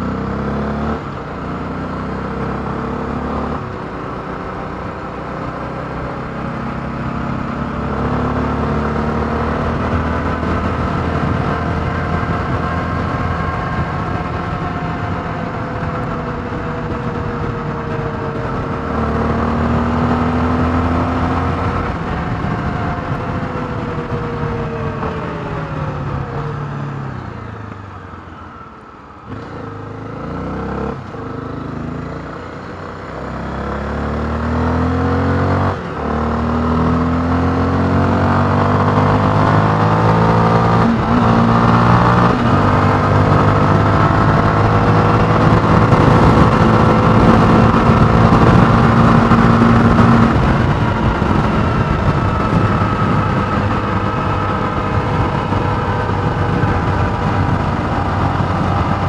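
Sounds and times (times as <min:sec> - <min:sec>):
motorcycle engine while riding: 0:00.0 - 0:59.0.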